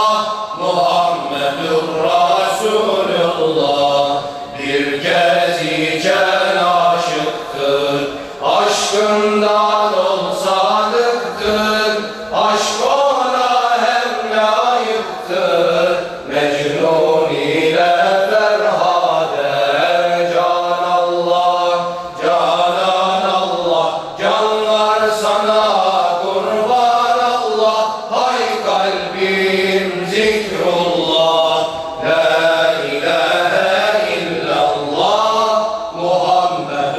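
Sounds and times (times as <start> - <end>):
group chanting a hymn: 0.0 - 36.9.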